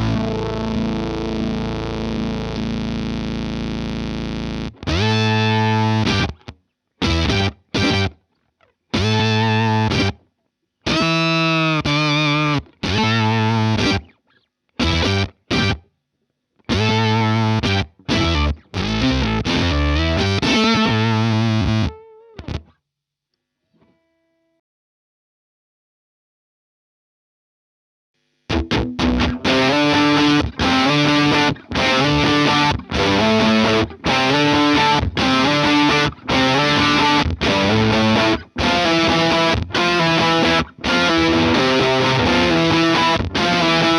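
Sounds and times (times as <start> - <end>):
fuzzy electric guitar phrases: 0.0 - 8.2, 8.9 - 10.2, 10.8 - 14.2, 14.8 - 15.9, 16.6 - 22.7, 28.5 - 43.9.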